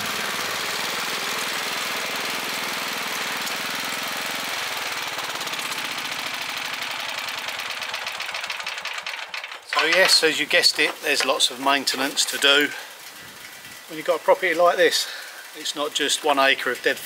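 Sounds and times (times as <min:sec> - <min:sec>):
lawn mower engine running: 0:00.0 - 0:17.0.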